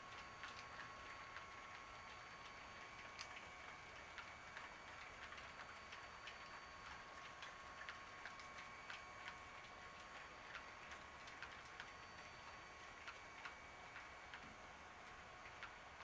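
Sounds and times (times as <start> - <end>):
faint steady high hum: 0.0 - 16.0.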